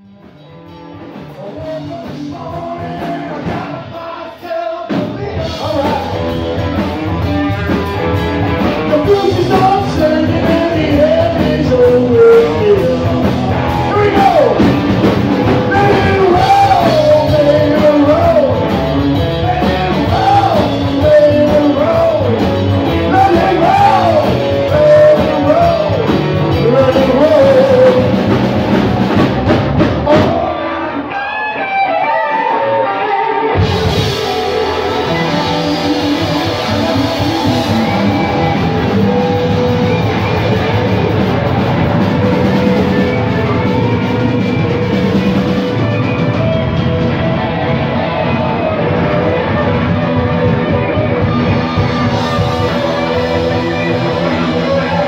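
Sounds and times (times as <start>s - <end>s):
rock song with lead singer: 0.3s - 55.0s.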